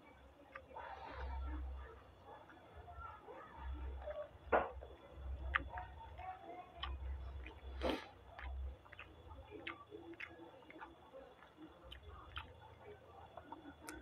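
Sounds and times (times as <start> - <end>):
chewing mouth clicks and smacks: 0.1 - 1.6, 3.6 - 14.0.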